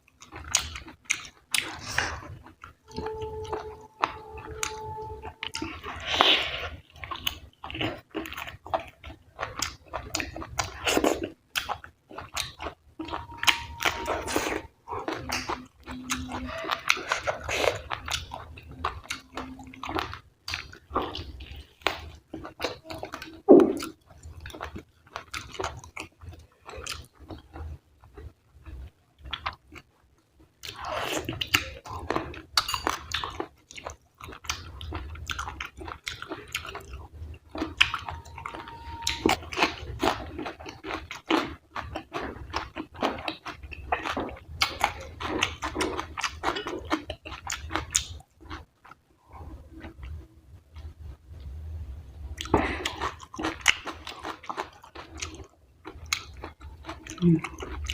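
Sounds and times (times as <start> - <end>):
person chewing food: 0.0 - 51.6, 52.4 - 57.9.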